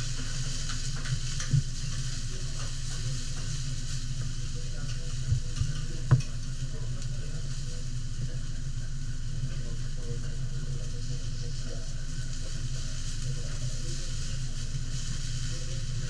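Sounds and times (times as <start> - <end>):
food sizzling on griddle: 0.0 - 16.0.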